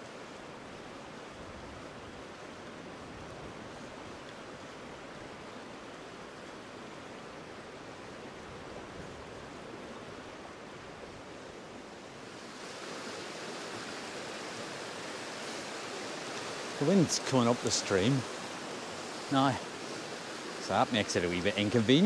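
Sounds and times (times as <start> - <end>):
river water running: 0.0 - 22.0
water rushing over stony rapid: 0.0 - 22.0.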